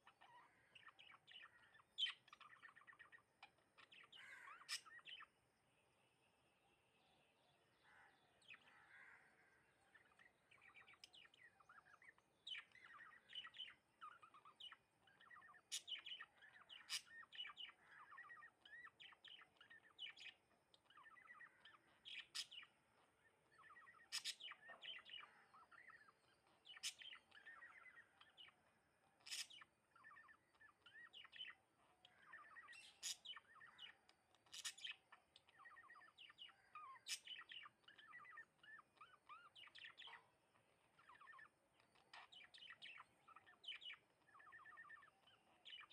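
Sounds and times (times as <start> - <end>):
sparrows chirping: 0.0 - 45.9.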